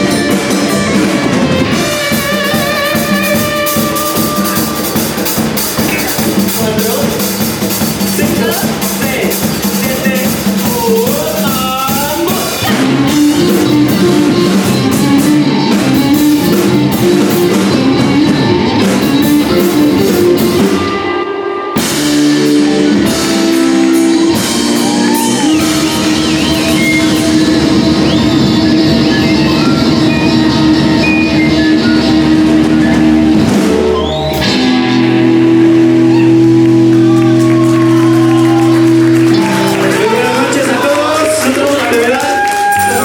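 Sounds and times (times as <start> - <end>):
drum kit: 0.0 - 43.0
electric guitar: 0.0 - 43.0.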